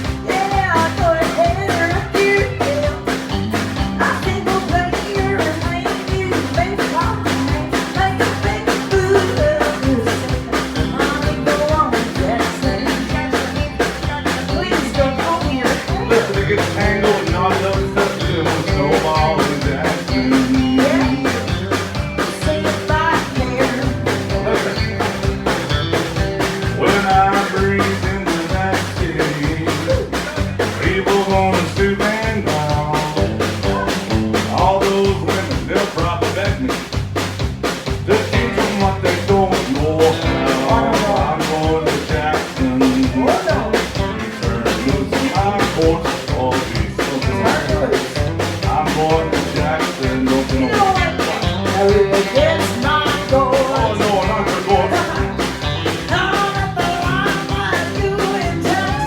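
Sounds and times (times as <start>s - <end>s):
person singing: 0.0s - 37.0s, 38.0s - 59.0s
live country band playing: 0.0s - 59.0s.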